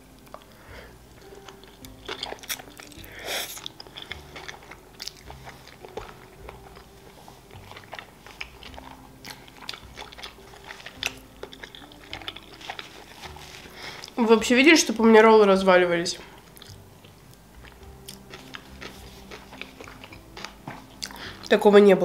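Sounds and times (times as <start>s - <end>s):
person chewing food: 0.1s - 14.2s, 16.2s - 21.5s.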